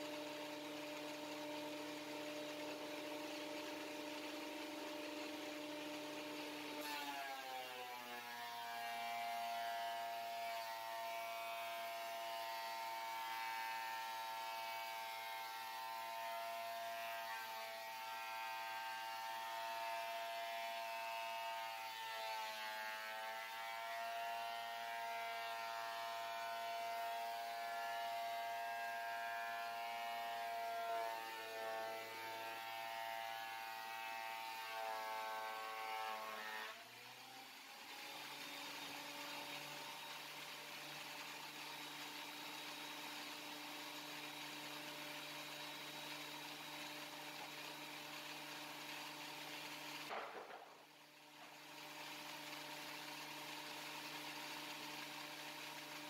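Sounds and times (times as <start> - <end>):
thickness planer planing board: 0.0 - 56.0.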